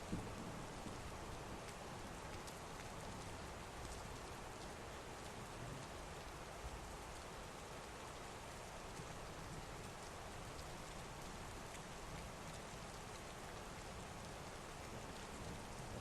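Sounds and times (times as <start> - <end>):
raindrop ticks: 0.0 - 7.9, 8.9 - 16.0.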